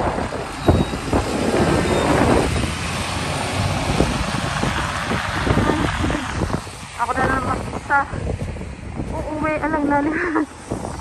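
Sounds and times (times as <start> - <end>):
bus engine rumbling: 0.0 - 11.0
wind gusting on microphone: 0.0 - 11.0.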